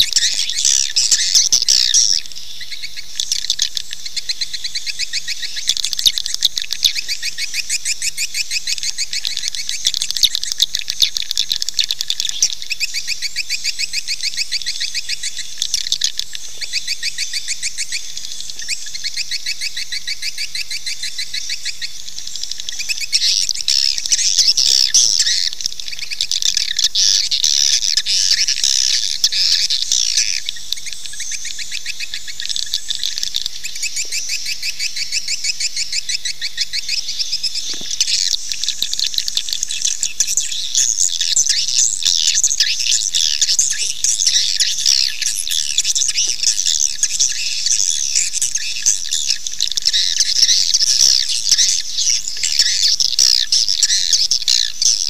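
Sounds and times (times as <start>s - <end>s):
high-pitched bird twittering: 0.0s - 55.0s.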